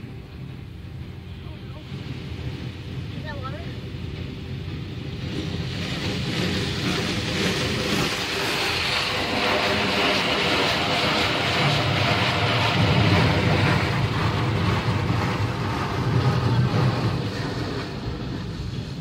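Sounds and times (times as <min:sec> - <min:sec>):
deep rumble: 0:00.0 - 0:19.0
water jets spraying on car: 0:01.7 - 0:19.0.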